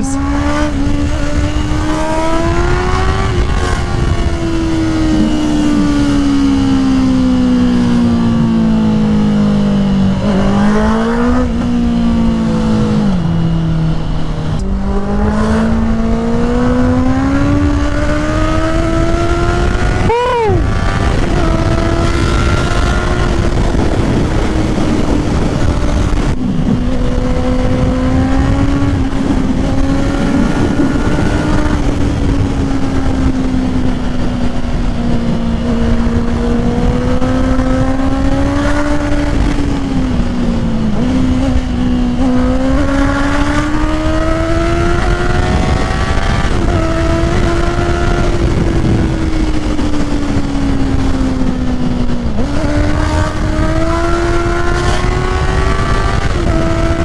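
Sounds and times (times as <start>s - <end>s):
motorcycle engine under way: 0.0s - 57.0s
wind noise: 0.0s - 57.0s.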